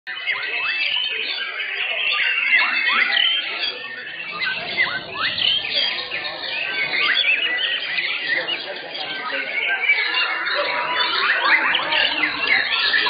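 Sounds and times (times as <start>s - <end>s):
birds singing in chorus: 0.1s - 13.0s.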